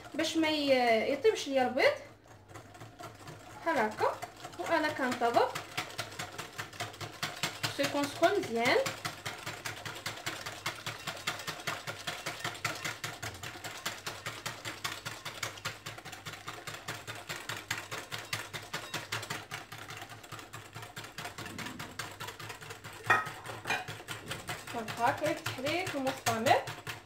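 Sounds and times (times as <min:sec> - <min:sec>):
whisk beating in glass bowl: 0:00.0 - 0:27.0.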